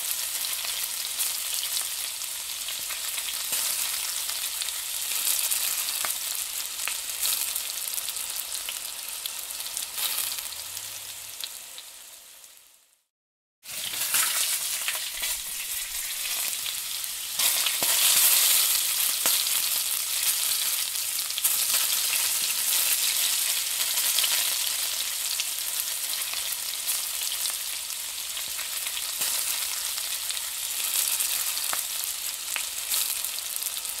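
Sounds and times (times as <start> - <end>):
chilli rings sizzling in a pan: 0.0 - 34.0.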